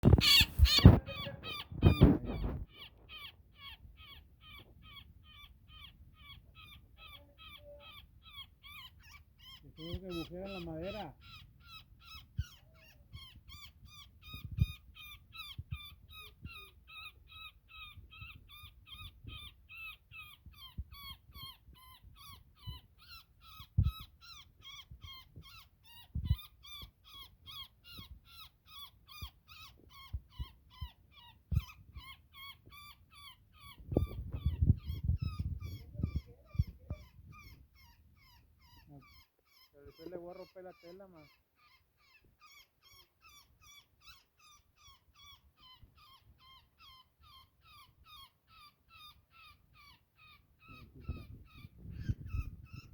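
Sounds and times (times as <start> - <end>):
woodpecker distress calls: 0.0 - 52.9.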